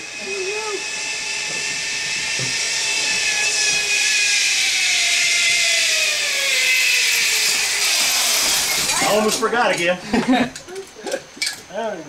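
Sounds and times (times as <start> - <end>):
zipline trolley whine on cable: 0.0 - 10.7.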